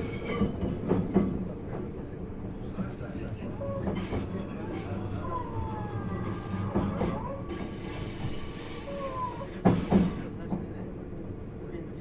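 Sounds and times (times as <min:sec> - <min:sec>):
train carriage rumbling: 0:00.0 - 0:12.0.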